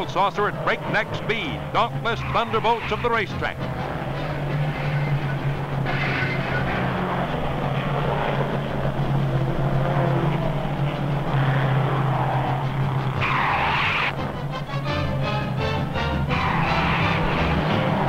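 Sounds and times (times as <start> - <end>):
music: 0.0 - 18.0
racing car engines droning: 0.0 - 18.0.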